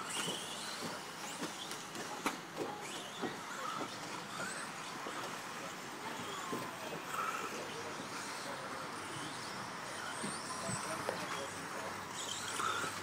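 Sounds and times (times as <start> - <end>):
toy car motor whine: 0.0 - 13.0.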